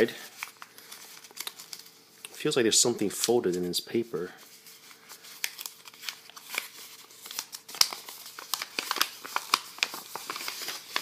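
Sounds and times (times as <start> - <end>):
paper crinkling and rustling: 0.0 - 2.4, 4.4 - 11.0.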